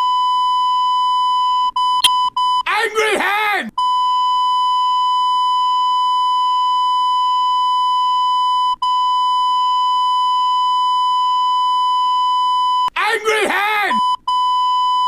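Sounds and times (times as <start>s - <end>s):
censor bleep: 0.0s - 2.6s, 3.8s - 12.9s, 14.0s - 15.0s.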